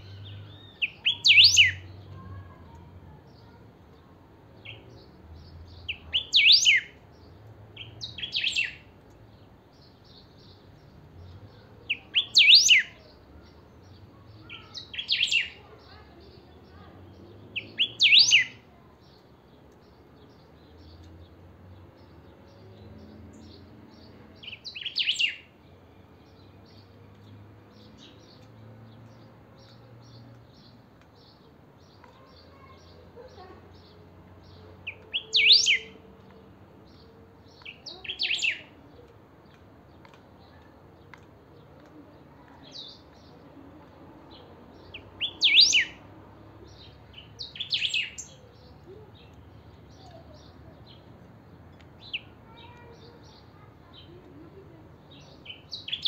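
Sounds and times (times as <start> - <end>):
bird song phrases: 0.0 - 56.0.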